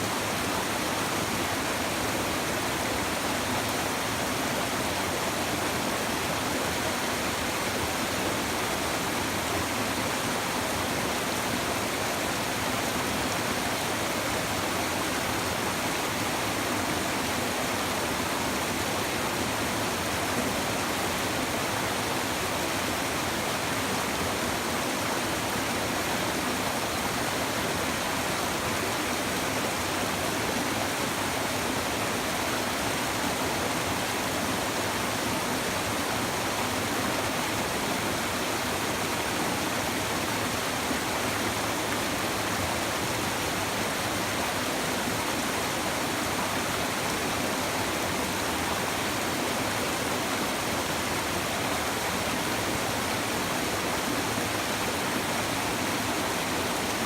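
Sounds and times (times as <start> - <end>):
river babbling over stones: 0.0 - 57.0.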